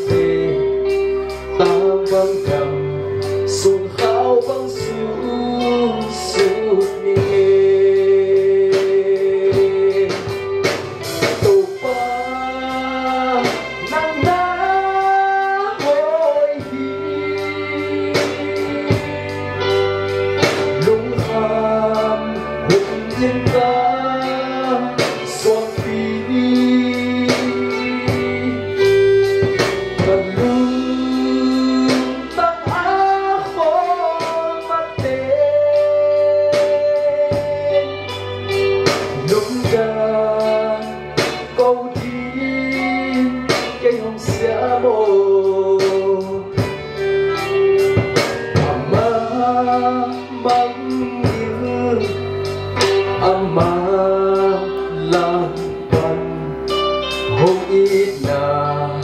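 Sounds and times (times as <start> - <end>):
bass guitar: 0.0 - 59.0
electric guitar: 0.0 - 59.0
keyboard: 0.0 - 59.0
man singing into a microphone: 0.0 - 59.0.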